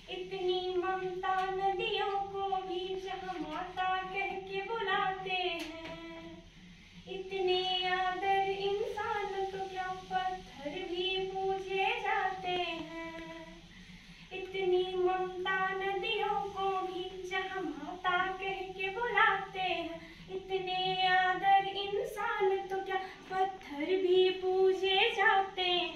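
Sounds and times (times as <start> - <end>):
woman singing unaccompanied: 0.0 - 13.7, 14.3 - 25.9.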